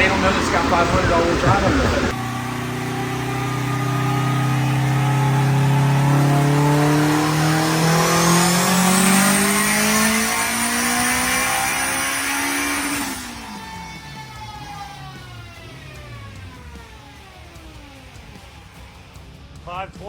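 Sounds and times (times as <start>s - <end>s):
high whine: 0.0s - 18.9s
car engine accelerating: 0.0s - 19.3s.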